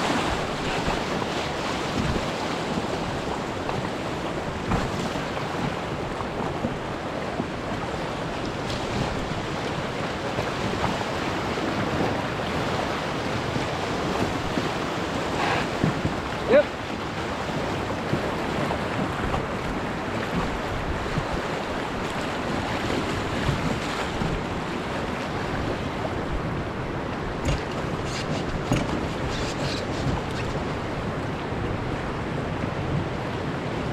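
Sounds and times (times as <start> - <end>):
river rapid rushing: 0.0 - 33.9.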